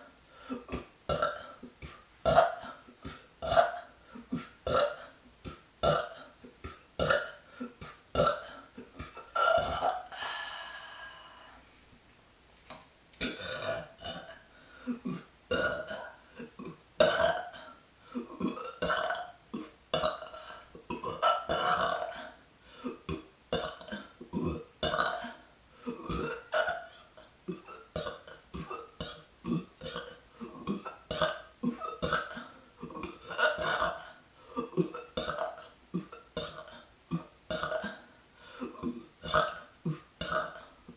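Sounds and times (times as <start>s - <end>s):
woman burping: 0.5s - 6.4s, 7.0s - 10.5s, 13.2s - 40.8s.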